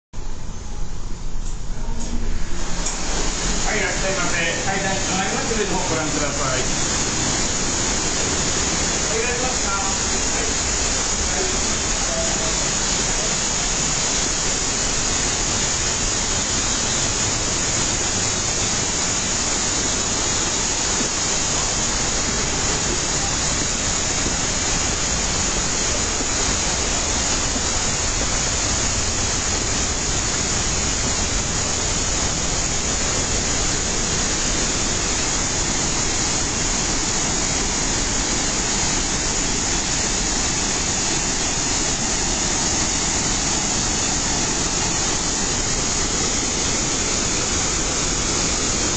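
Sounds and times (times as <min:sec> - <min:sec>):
waterfall rushing: 0:02.2 - 0:48.9.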